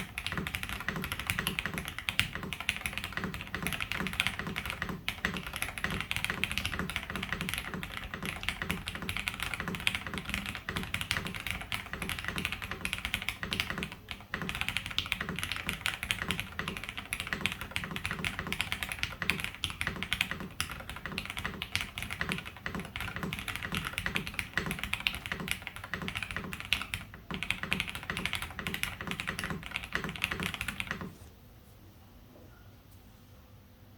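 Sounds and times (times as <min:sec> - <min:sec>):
typing on mechanical keyboard: 0:00.0 - 0:31.2.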